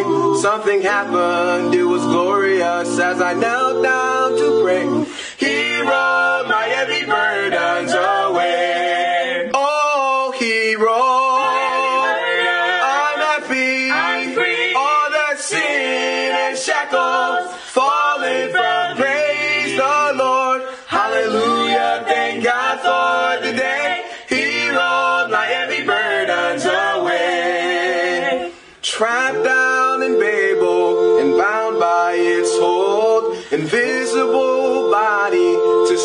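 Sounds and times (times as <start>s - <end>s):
group singing a cappella: 0.0s - 36.0s.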